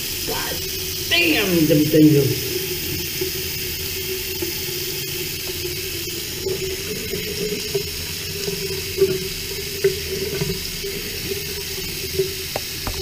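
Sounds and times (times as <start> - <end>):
shower water splashing: 0.0 - 13.0.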